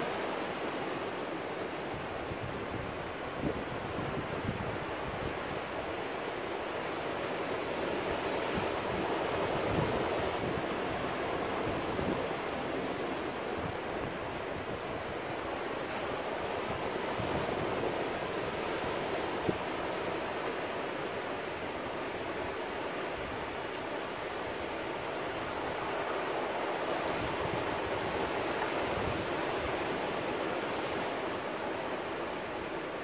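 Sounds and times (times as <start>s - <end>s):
ocean surf breaking on rocks: 0.0s - 33.0s.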